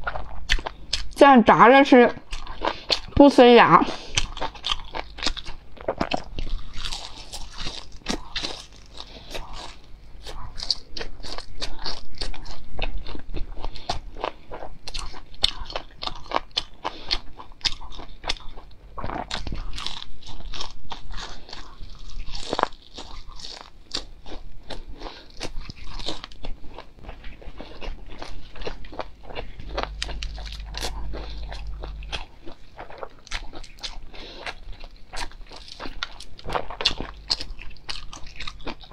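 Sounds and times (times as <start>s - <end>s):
crunchy food chewing: 0.0s - 1.2s, 2.2s - 38.9s.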